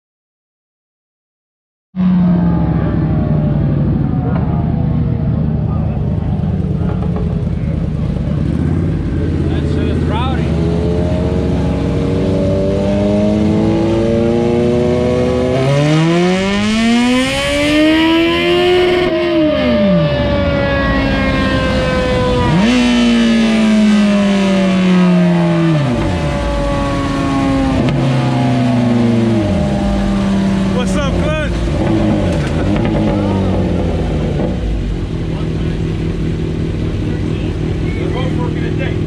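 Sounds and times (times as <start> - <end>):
motorcycle engine revving: 2.0 - 39.0.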